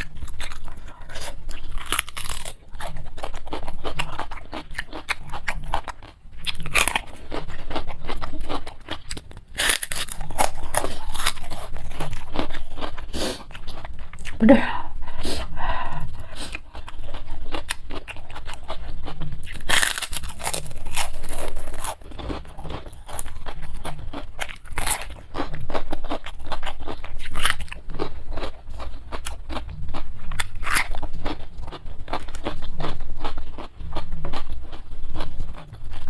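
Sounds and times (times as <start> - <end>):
chewing crunchy food: 0.0 - 36.0.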